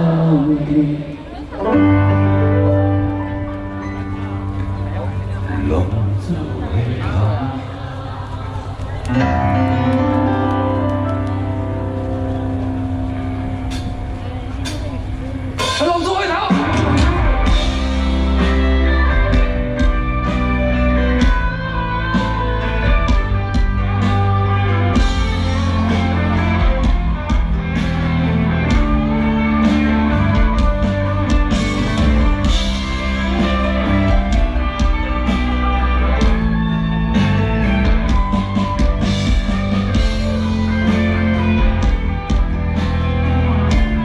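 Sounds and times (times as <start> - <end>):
bass guitar: 0.0 - 44.0
drums: 0.0 - 44.0
electric guitar: 0.0 - 44.0.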